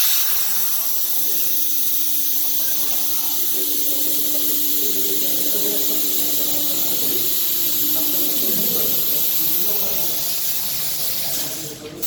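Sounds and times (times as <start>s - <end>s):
plasma arc hissing: 0.0s - 12.0s.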